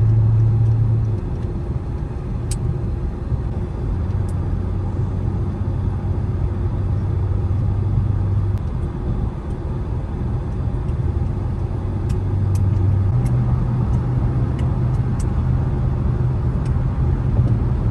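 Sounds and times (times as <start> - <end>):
car engine drone: 0.0 - 17.9.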